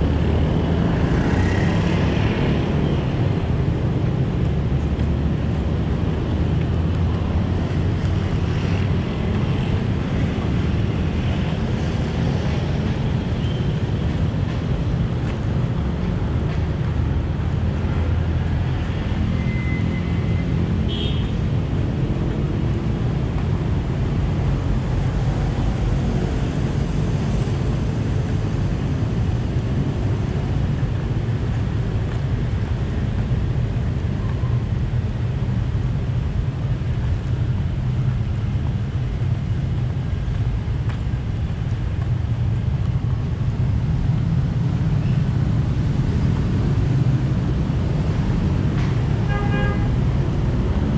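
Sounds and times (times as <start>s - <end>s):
low rumble of moving road vehicle: 0.0s - 50.9s.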